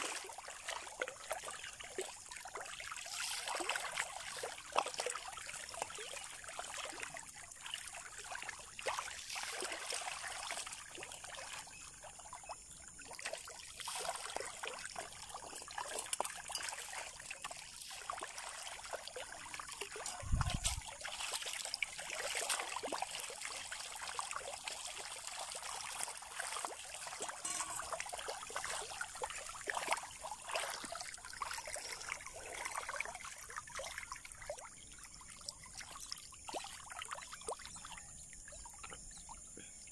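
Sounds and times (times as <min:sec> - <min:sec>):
fish splashing in river water: 0:00.0 - 0:38.6.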